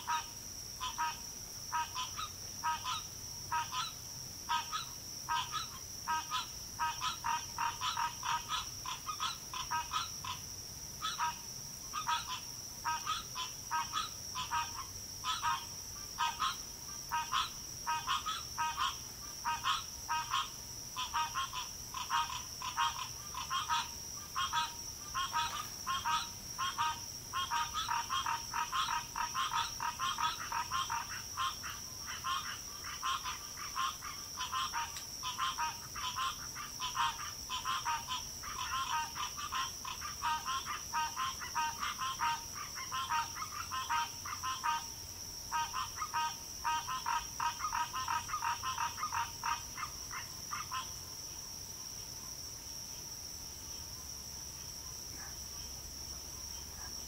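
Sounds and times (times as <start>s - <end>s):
frogs calling: 0.0s - 57.0s.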